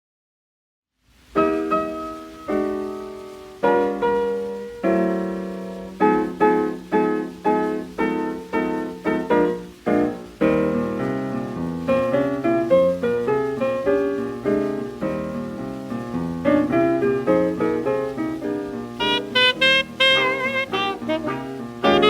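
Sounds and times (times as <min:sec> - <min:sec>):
jazz piano playing: 0:01.3 - 0:22.0.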